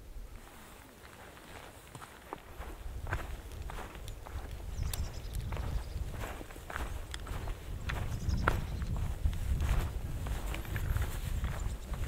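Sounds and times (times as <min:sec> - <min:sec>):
footsteps on a path: 0:00.0 - 0:12.0.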